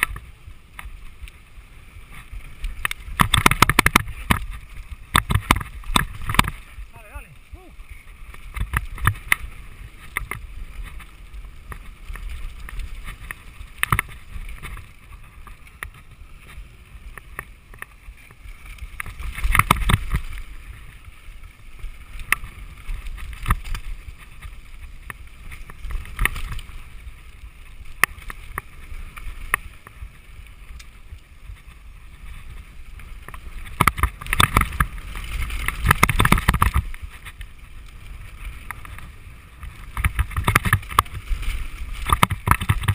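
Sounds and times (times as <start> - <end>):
bike clicks and rattles: 0.0 - 42.9.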